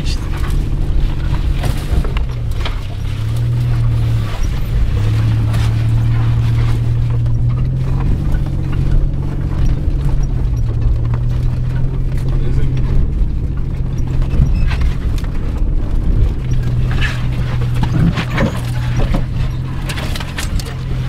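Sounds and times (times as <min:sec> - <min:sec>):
car engine humming: 0:00.0 - 0:21.0
vehicle knocks and rattles: 0:00.0 - 0:21.0.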